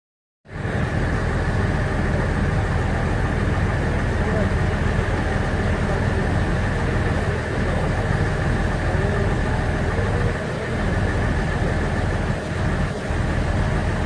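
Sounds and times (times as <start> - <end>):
engine low rumble with whine: 0.5 - 14.0.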